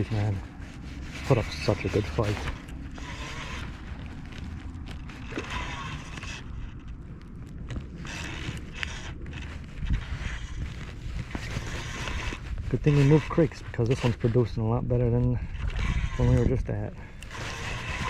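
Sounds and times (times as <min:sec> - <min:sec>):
handling clicks and rustles: 0:00.0 - 0:18.0
wind buffeting microphone: 0:00.0 - 0:18.0.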